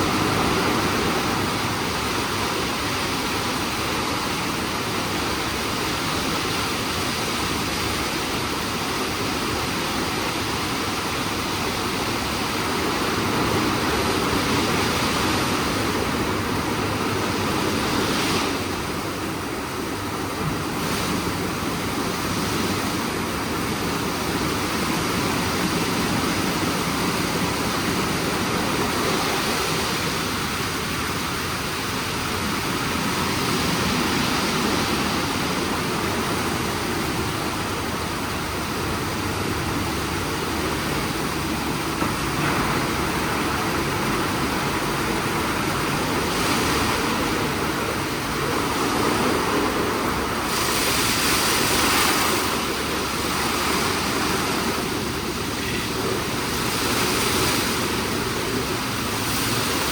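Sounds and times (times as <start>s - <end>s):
car wash running: 0.0s - 59.9s.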